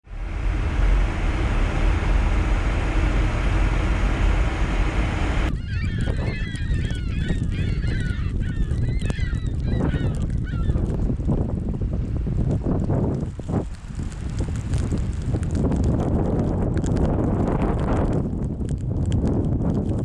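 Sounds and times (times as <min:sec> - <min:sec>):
low wind rumble: 0:00.0 - 0:20.0
wind buffeting microphone: 0:00.0 - 0:20.0.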